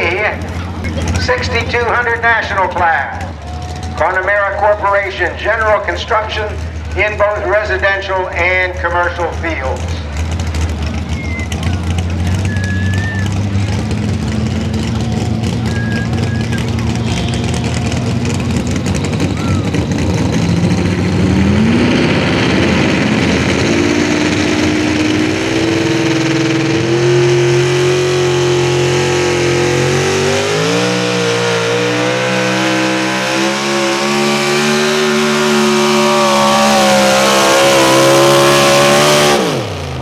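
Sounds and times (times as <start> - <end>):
truck engine running flat out: 0.0 - 40.0.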